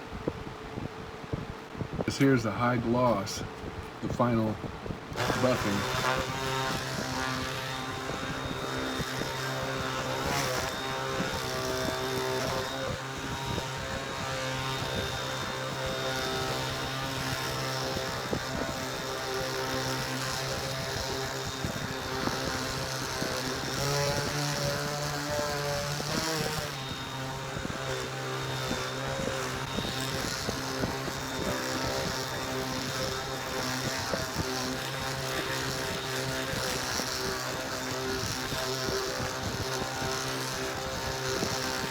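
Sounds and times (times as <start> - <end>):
electric power buffer running: 5.1 - 41.9.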